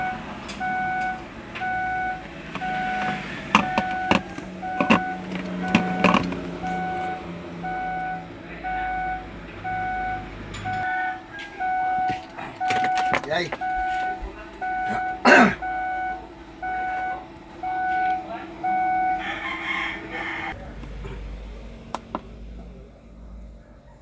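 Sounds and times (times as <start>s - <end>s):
electronic warning chime beeping: 0.0s - 20.6s.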